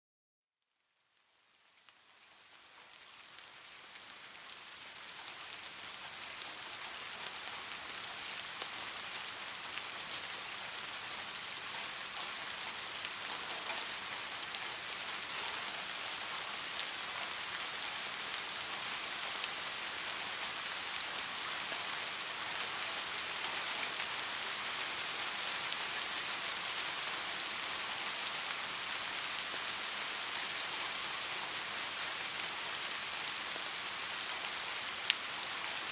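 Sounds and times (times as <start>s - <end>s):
steady rain falling: 0.8s - 35.9s.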